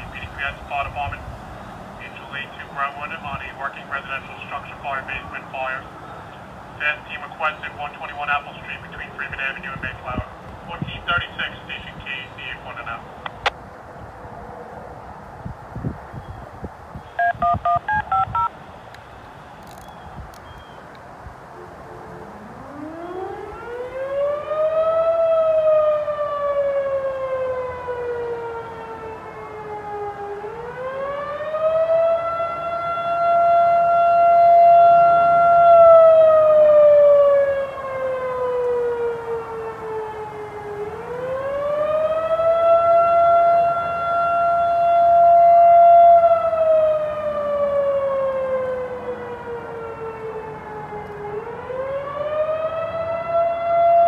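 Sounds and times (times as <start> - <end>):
fire siren wailing: 0.0 - 13.5, 17.2 - 18.5, 21.8 - 54.0.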